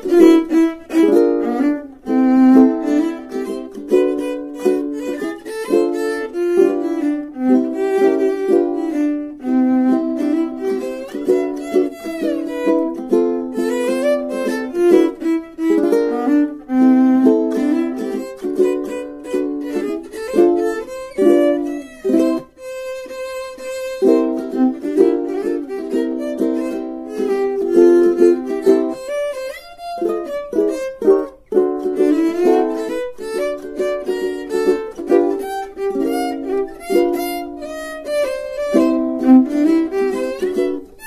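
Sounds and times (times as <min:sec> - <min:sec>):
instrumental melody: 0:00.0 - 0:41.0.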